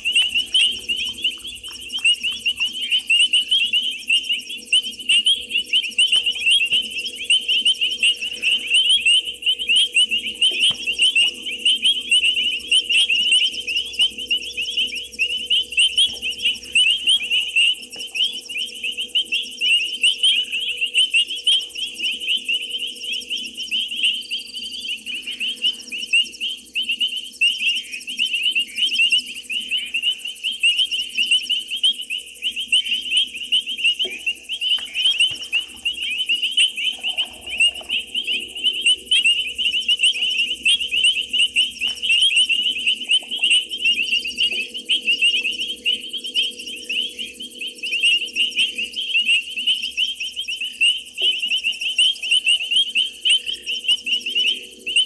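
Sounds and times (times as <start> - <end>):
faint high chirping: 0.0 - 55.0
insects and frogs chirping: 0.0 - 55.0.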